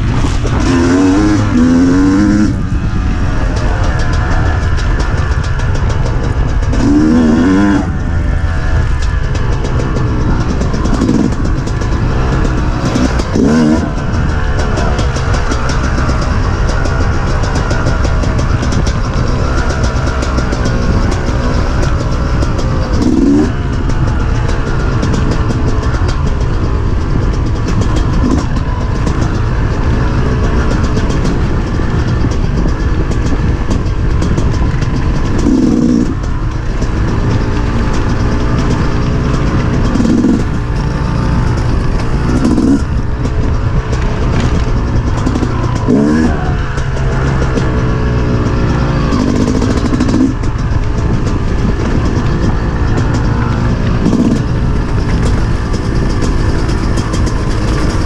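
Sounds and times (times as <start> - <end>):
dirt bike engine revving: 0.0 - 58.0
low rumble: 0.0 - 58.0.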